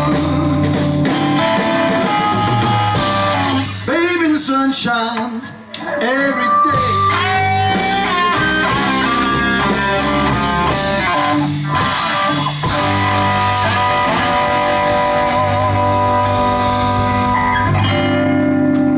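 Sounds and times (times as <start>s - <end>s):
electric guitar soloing: 0.0s - 4.2s, 5.4s - 18.9s
live blues band playing: 0.0s - 18.9s.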